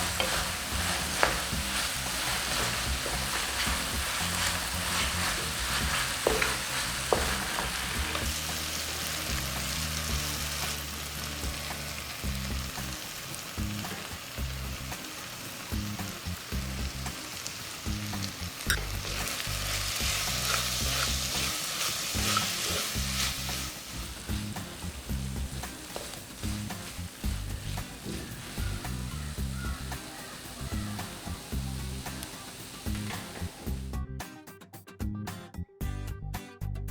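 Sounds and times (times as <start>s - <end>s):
food sizzling in hot oil: 0.0s - 34.0s
background music: 0.0s - 36.9s.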